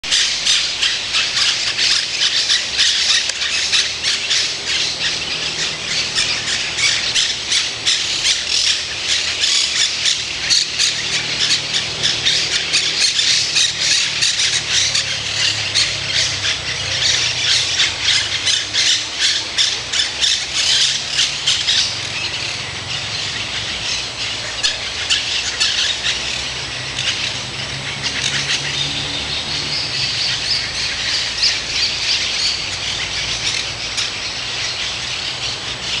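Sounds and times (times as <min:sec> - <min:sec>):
chorus of birds calling: 0:00.0 - 0:36.0.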